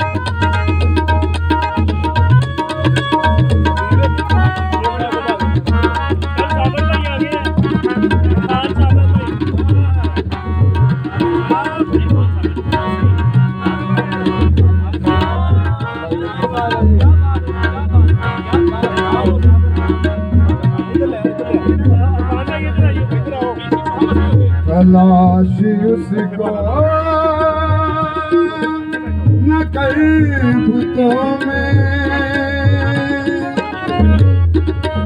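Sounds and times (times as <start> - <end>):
harmonium notes: 0.0 - 35.0
tabla rhythm: 0.0 - 35.0.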